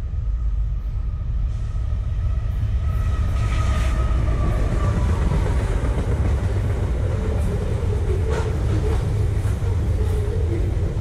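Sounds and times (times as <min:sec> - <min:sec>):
locomotive whine: 0:00.0 - 0:11.0.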